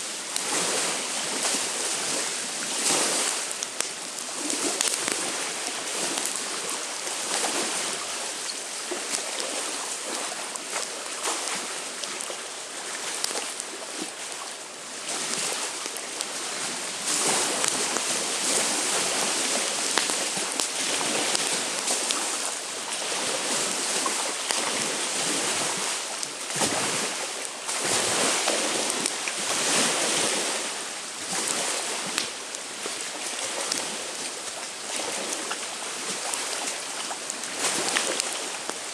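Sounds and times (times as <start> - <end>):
campfire crackling: 0.0 - 38.9
lake waves washing on shore: 0.0 - 38.9.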